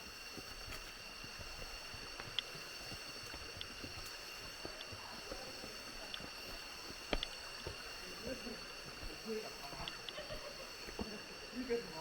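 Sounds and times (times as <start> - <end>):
footsteps on dirt trail: 0.0 - 11.9
insect chorus drone: 0.0 - 12.0.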